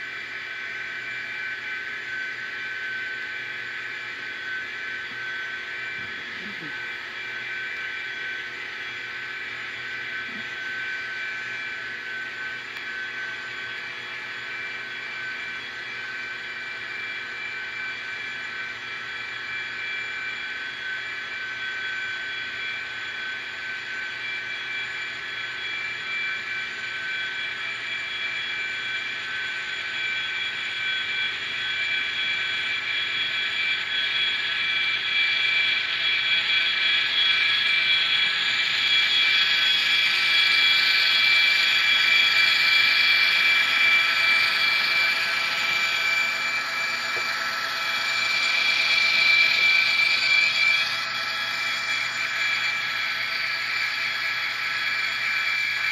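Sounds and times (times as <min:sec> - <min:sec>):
high-pitched diesel engine drone: 0:00.0 - 0:13.8, 0:19.4 - 0:55.9.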